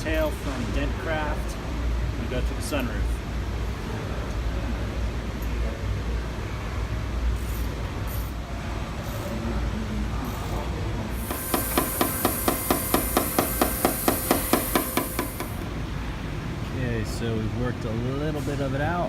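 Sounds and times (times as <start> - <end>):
low shop hum: 0.0 - 19.0.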